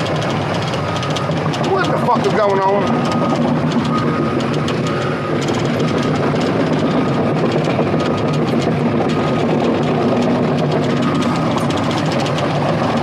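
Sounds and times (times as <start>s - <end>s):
faint clicking rattles: 0.0s - 13.0s
heavy diesel engine running: 0.0s - 13.0s.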